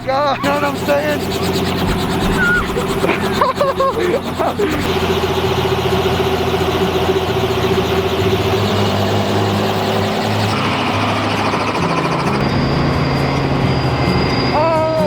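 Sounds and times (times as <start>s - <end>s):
helicopter engine and rotors: 0.0s - 15.0s.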